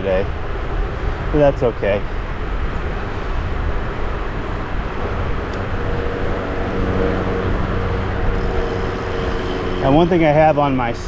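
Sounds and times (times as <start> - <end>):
motor vehicle hum: 0.0 - 11.0
wind and road rumble: 0.0 - 11.0.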